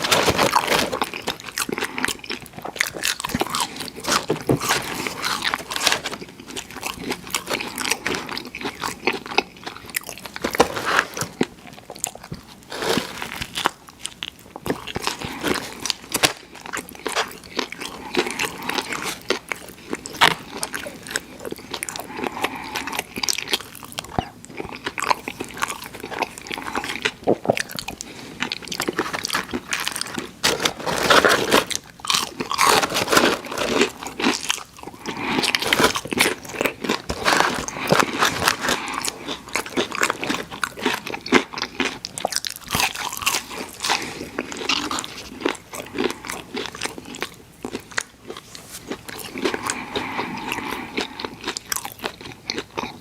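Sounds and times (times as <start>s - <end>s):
crunching fried food: 0.0s - 53.0s.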